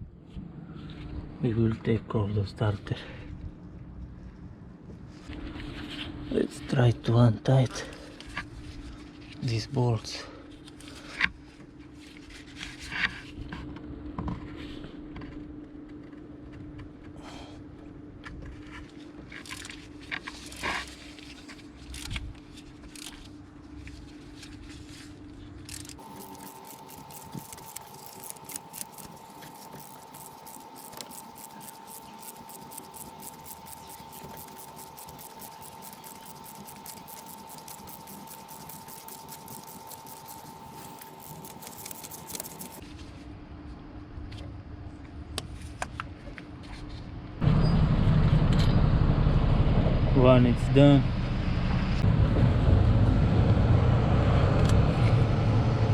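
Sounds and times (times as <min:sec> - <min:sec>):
constant hum: 0:00.0 - 0:53.8.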